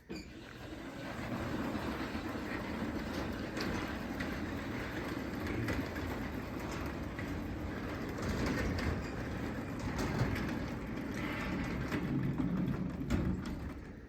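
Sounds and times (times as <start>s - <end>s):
garage door rumbling on tracks: 0.0s - 14.0s
rollers clicking and clattering: 0.0s - 14.0s.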